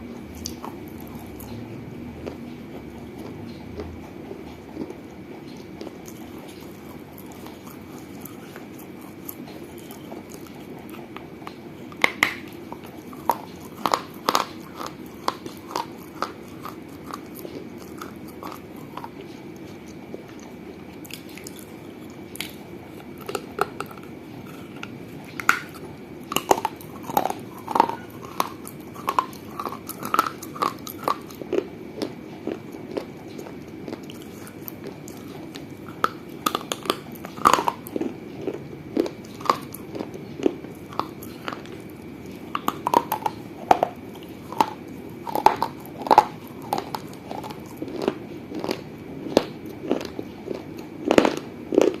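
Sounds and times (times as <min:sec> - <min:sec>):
steady low hum: 0:00.0 - 0:52.0
teeth crunching clay: 0:00.0 - 0:52.0.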